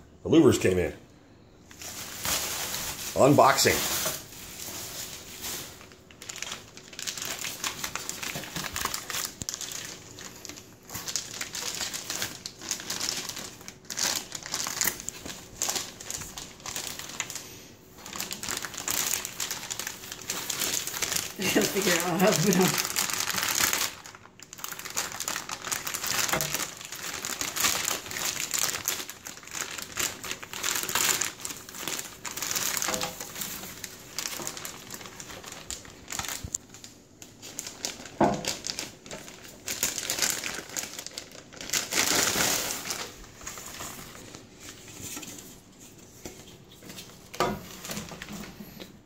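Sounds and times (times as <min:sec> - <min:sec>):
plastic bag crinkling: 0:01.6 - 0:49.0.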